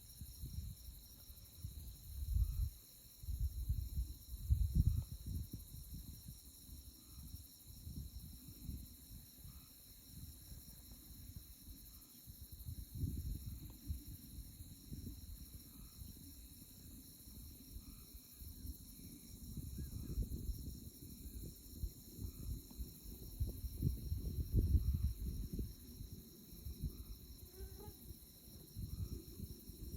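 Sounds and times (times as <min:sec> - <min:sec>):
night insects trilling: 0:00.0 - 0:29.9.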